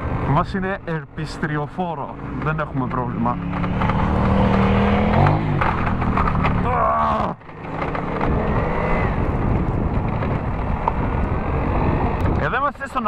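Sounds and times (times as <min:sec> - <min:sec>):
motorcycle engine running: 0:00.0 - 0:12.4
road rumble on gravel: 0:00.0 - 0:13.0.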